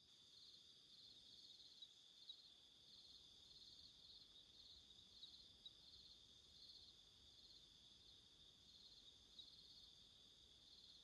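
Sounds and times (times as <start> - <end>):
crickets chirring: 0.2 - 11.0.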